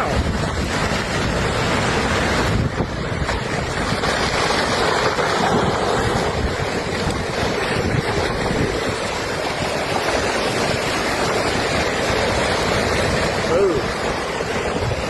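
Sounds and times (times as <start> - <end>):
rough water: 0.0 - 15.0
wind buffeting microphone: 0.0 - 15.0
wind rushing: 0.0 - 15.0.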